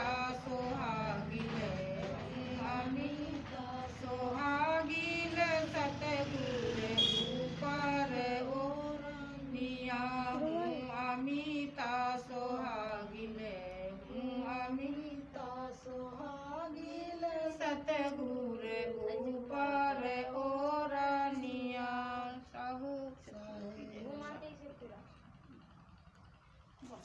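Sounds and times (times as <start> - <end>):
woman singing devotional song: 0.0 - 25.0.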